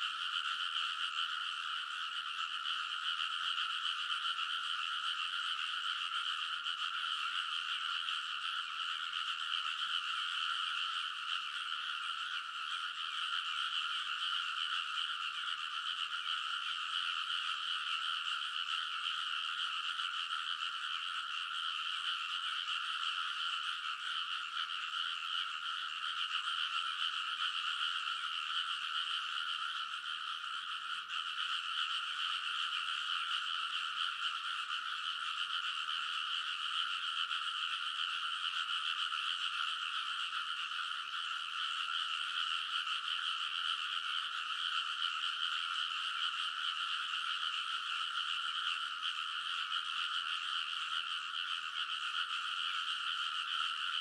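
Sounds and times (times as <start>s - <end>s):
frogs croaking in chorus: 0.0s - 54.0s.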